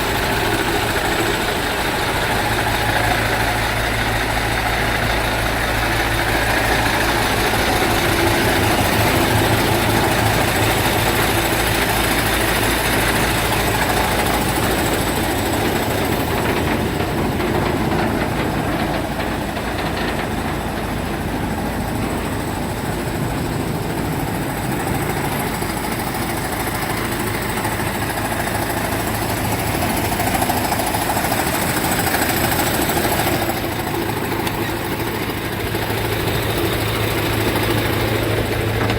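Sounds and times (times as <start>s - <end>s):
diesel truck engine clattering: 0.0s - 38.9s.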